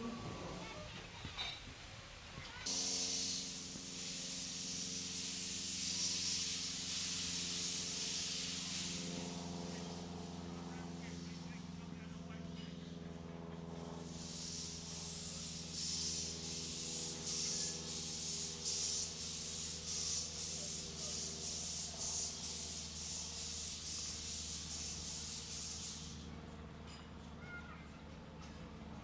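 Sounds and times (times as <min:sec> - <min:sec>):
steam engine hissing puffs: 0:01.0 - 0:12.0, 0:14.0 - 0:26.4.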